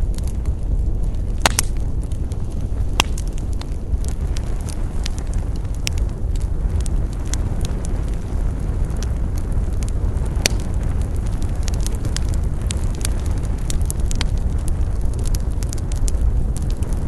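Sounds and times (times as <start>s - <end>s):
burning wood crackling and popping: 0.0s - 17.0s
flames rumbling: 0.0s - 17.0s.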